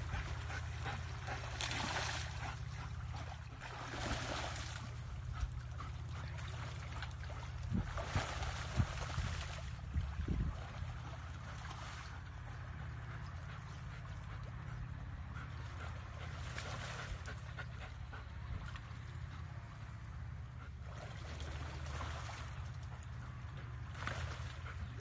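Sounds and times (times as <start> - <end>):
low rumble: 0.0 - 25.0
water sloshing and splashing: 0.0 - 25.0.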